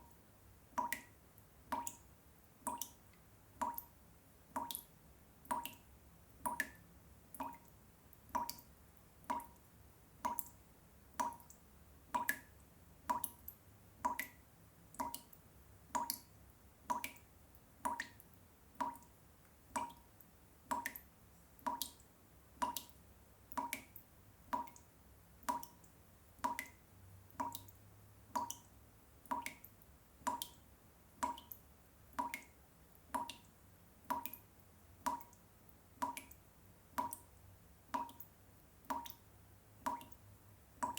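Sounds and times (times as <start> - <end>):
water drops plopping into water: 0.0 - 4.0, 4.6 - 10.6, 11.2 - 16.3, 16.9 - 19.1, 19.7 - 20.1, 20.7 - 22.0, 22.6 - 30.6, 31.2 - 35.4, 36.0 - 39.2, 39.8 - 40.2.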